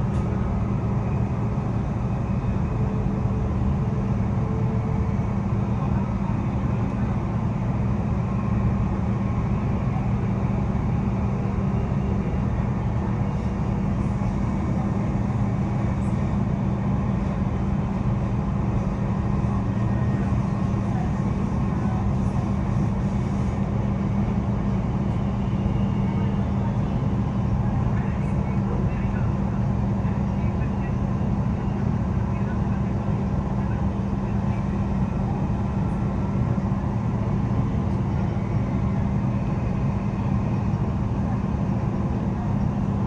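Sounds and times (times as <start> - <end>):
train low hum: 0.0 - 43.0
wheels rumbling on rails: 0.0 - 43.0.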